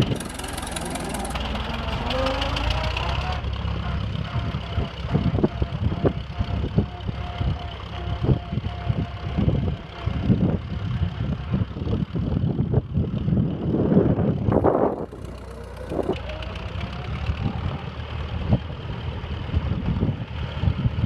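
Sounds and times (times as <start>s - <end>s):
tractor engine rumbling: 0.0s - 21.0s.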